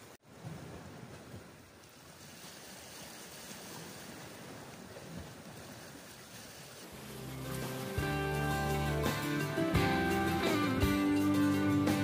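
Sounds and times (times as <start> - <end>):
waves on rocky shore: 0.0 - 12.0.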